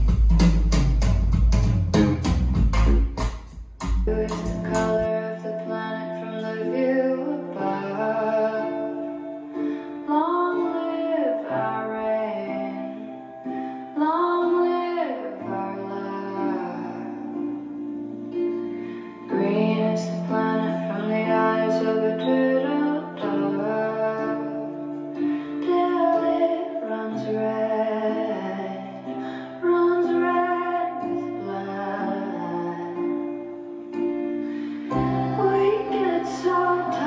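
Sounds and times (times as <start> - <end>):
slow song with female singing: 4.0 - 37.0.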